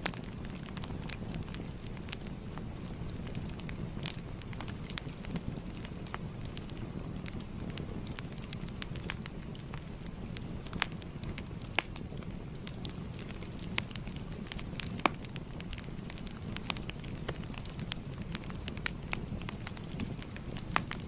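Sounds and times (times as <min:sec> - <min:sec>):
fire crackling: 0:00.0 - 0:21.0
low rumble of burning flames: 0:00.0 - 0:21.0.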